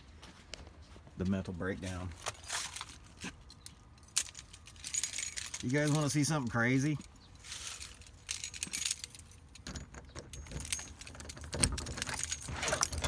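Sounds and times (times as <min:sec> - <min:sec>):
metallic jingling and clinking: 0:02.1 - 0:13.0.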